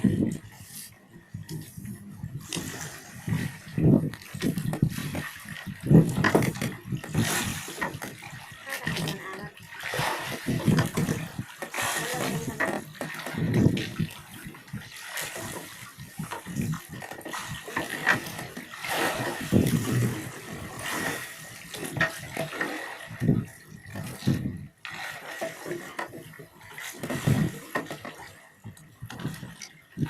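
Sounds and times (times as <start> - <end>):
water sloshing and splashing: 0.0 - 30.0.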